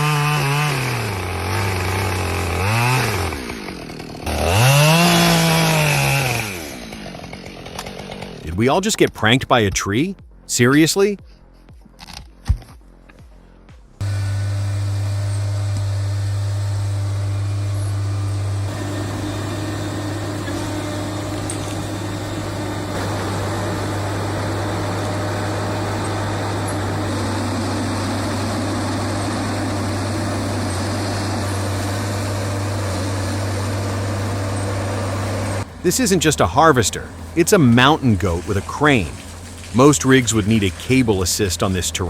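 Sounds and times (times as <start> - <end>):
diesel engine running: 0.0 - 8.6, 14.0 - 42.0.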